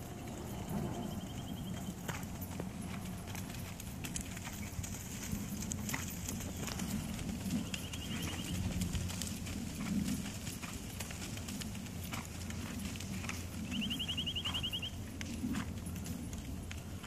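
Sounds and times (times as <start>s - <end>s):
hoofbeats on sand: 0.0s - 17.0s.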